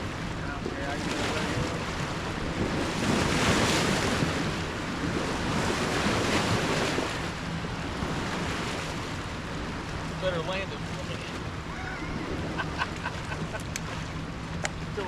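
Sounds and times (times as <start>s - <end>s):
wind buffeting microphone: 0.0s - 10.2s, 11.4s - 15.0s
rushing water: 0.0s - 15.0s.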